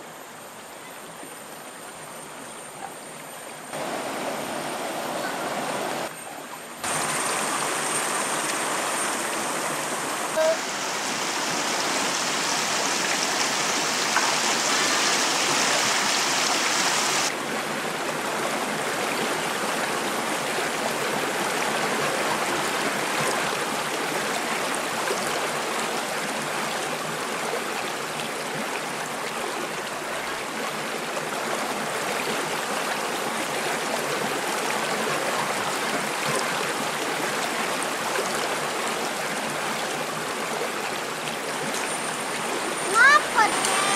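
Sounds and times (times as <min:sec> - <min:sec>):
stream flowing over rocks: 0:03.0 - 0:06.1, 0:06.8 - 0:43.9.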